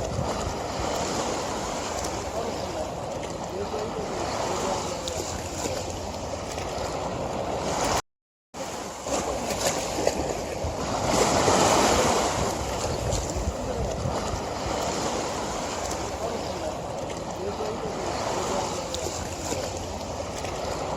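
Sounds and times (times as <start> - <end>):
river water rushing: 0.0 - 8.0, 8.6 - 20.9.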